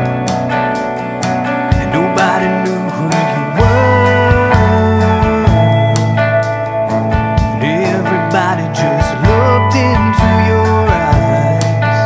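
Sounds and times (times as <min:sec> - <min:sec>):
bass line: 0:00.0 - 0:12.0
sliding guitar melody: 0:00.0 - 0:12.0.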